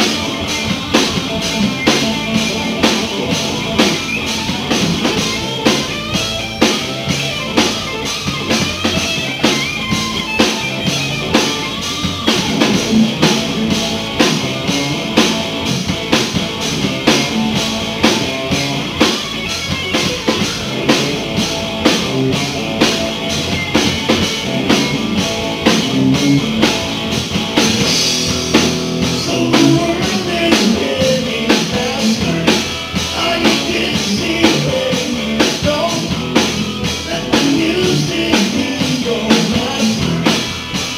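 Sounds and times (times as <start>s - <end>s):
bass guitar: 0.0s - 40.9s
drum kit beat: 0.0s - 40.9s
electric guitar: 0.0s - 40.9s.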